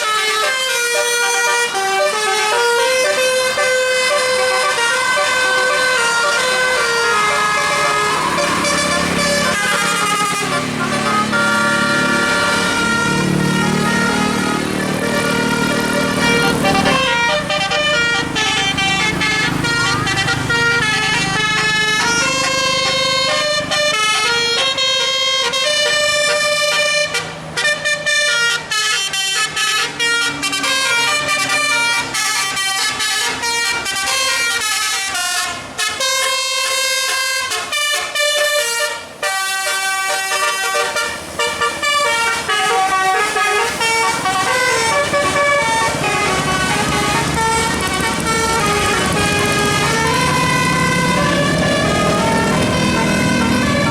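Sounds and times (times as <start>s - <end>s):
bus musical air horn: 0.0s - 53.9s
engine rumbling: 0.0s - 53.9s.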